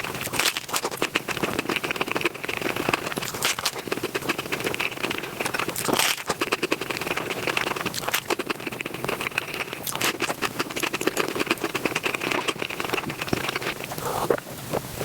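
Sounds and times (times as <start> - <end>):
rapid chewing and crunching: 0.0 - 15.0.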